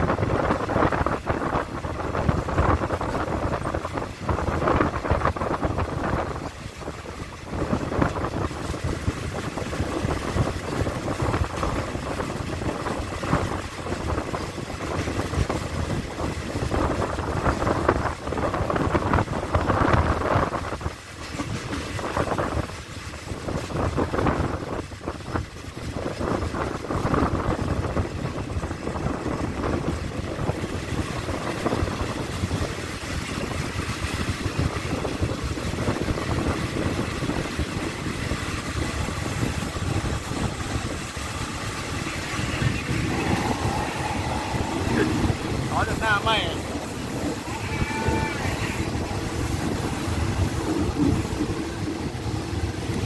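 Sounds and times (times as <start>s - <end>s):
wheel and rail clatter: 0.0s - 53.0s
wind on microphone: 0.0s - 53.0s.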